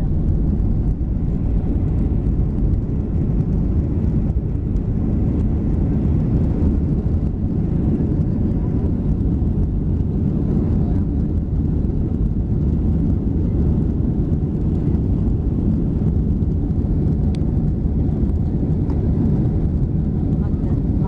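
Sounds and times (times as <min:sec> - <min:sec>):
distant jet engines rumbling: 0:00.0 - 0:21.0.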